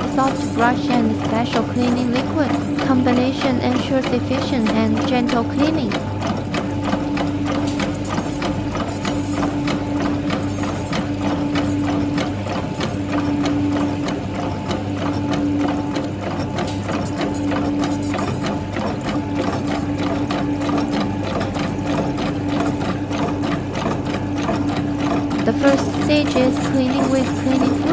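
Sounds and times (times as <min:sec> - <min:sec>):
machine motor hum with tone: 0:00.0 - 0:27.9.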